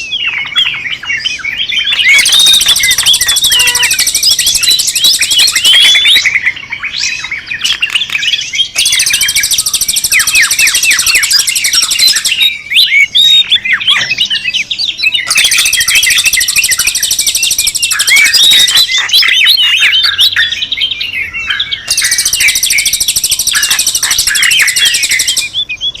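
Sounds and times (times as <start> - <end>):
rapid high bird trill: 0.0 - 26.0
small birds chirping and twittering: 0.0 - 26.0.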